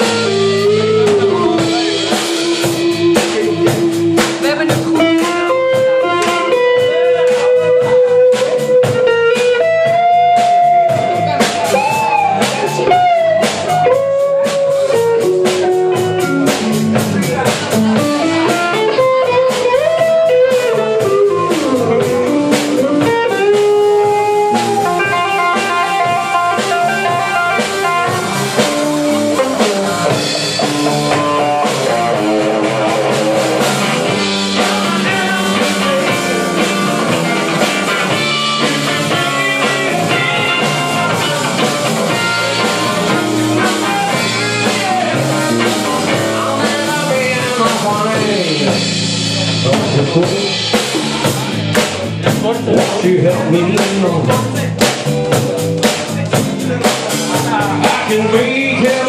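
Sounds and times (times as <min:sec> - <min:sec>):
bass guitar: 0:00.0 - 0:59.0
drum kit: 0:00.0 - 0:59.0
electric guitar lead lines: 0:00.0 - 0:59.0.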